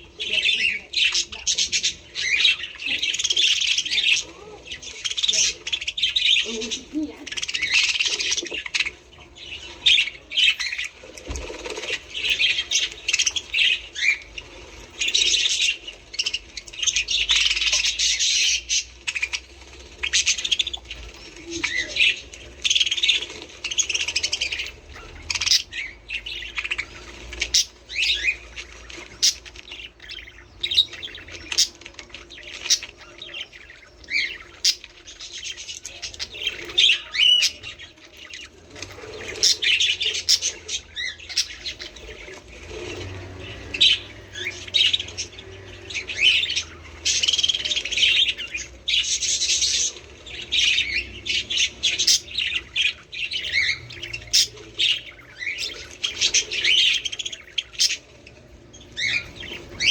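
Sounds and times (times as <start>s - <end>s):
budgerigars warbling and chirping: 0.0s - 59.9s.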